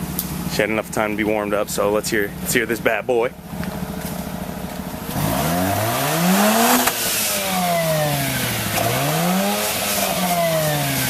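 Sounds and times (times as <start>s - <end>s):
rotary engine idling and revving: 0.0s - 11.0s.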